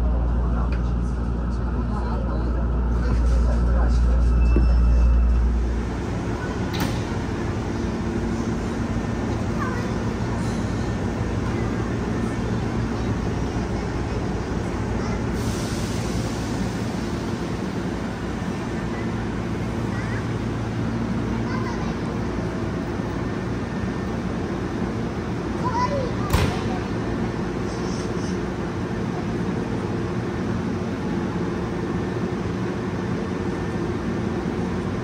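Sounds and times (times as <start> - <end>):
electric train hum and rumble: 0.0 - 35.0.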